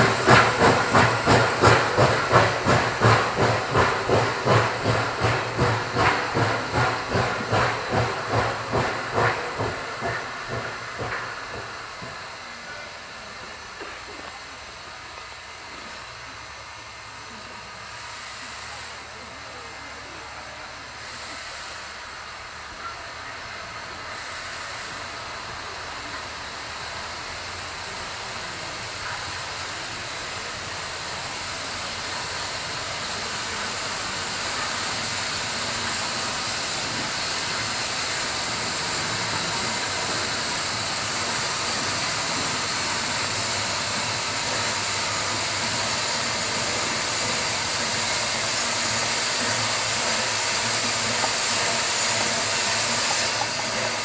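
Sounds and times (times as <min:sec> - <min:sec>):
steam hissing: 0:00.0 - 0:54.0
steam locomotive approaching: 0:00.0 - 0:54.0.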